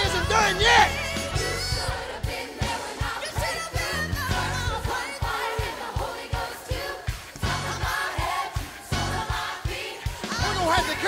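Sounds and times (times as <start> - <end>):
fast steady drum beat: 0.0 - 11.0
voices singing: 0.0 - 11.0.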